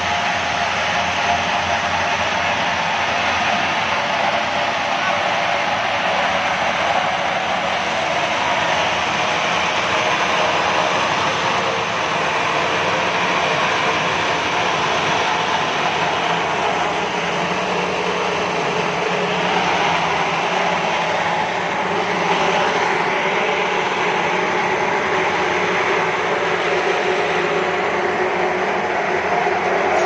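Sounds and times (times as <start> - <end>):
steam boiler hissing: 0.0 - 30.0.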